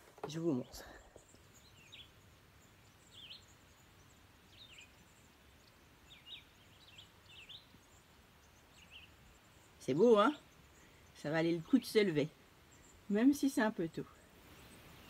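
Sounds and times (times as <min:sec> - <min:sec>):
low background hiss: 0:00.0 - 0:15.0
faint bird chirps: 0:00.2 - 0:15.0.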